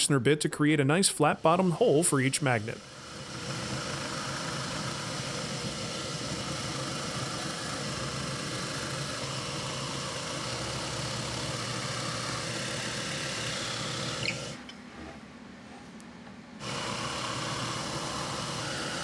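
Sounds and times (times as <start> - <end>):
drill press boring wood: 1.2 - 15.1, 16.6 - 19.0.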